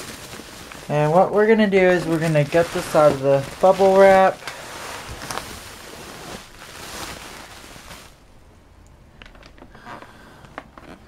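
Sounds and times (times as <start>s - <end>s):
bubble wrap rustling and crinkling: 0.0s - 8.3s, 9.2s - 11.0s.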